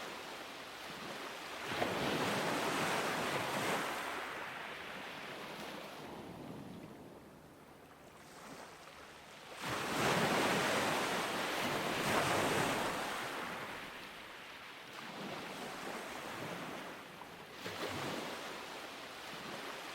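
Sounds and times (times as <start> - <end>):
ocean waves breaking on beach: 0.0 - 19.9.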